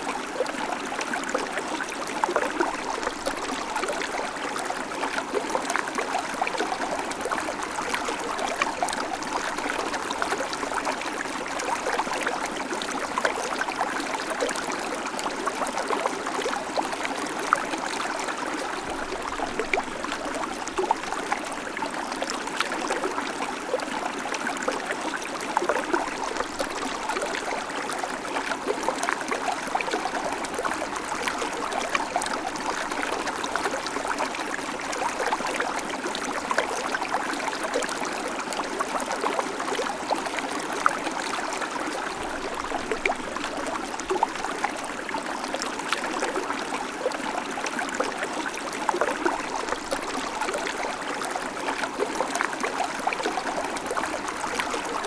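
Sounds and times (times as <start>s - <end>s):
creek babbling over stones: 0.0s - 55.0s.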